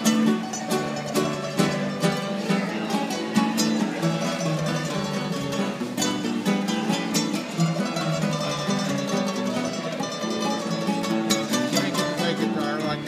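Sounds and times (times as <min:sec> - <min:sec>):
two acoustic guitars playing: 0:00.0 - 0:13.0.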